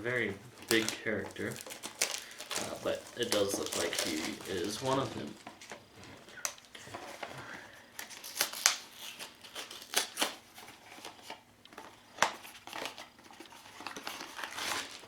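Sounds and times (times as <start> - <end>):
cardboard packaging clicks and crinkles: 0.0 - 15.0.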